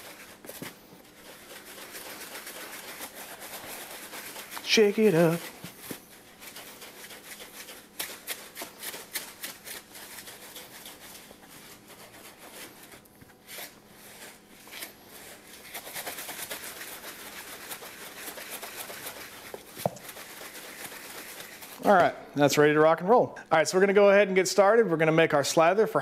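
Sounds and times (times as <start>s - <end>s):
dry rub rattling in shaker bottle: 0.0s - 22.0s.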